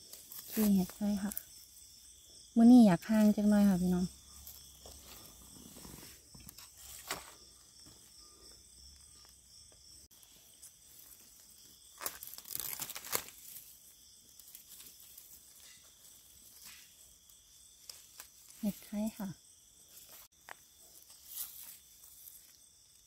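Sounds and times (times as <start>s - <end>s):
dry leaves and twigs crackling: 0.0s - 23.0s
insects chirring: 0.0s - 23.0s.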